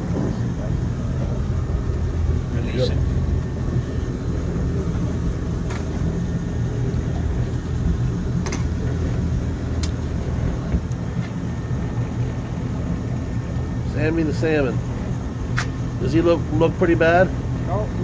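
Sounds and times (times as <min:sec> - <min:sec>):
motorboat engine droning: 0:00.0 - 0:18.0.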